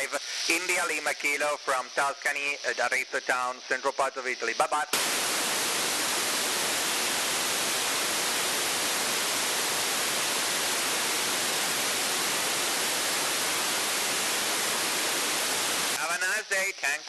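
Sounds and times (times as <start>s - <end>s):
radio receiver hiss: 0.0s - 17.0s.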